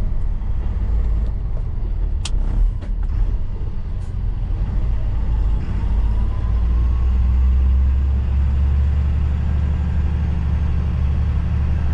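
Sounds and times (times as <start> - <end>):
truck engine rumbling: 0.0 - 11.9.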